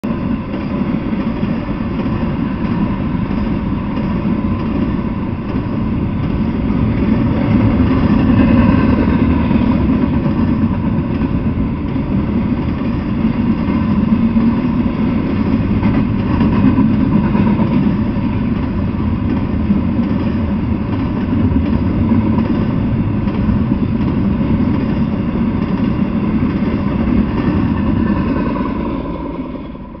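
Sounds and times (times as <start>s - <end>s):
freight train rumbling over rails: 0.0s - 30.0s.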